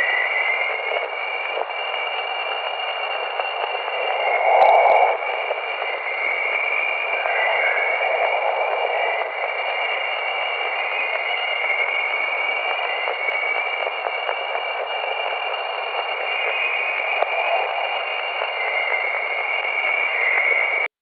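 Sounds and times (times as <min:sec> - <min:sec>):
wavering dense hiss: 0:00.0 - 0:20.2.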